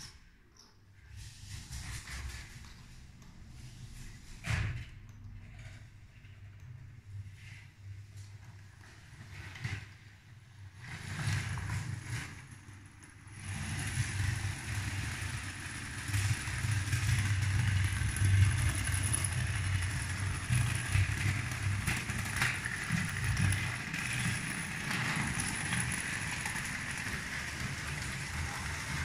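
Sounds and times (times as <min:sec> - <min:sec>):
toy train rumbling on plastic track: 0:01.1 - 0:04.8, 0:05.4 - 0:29.0.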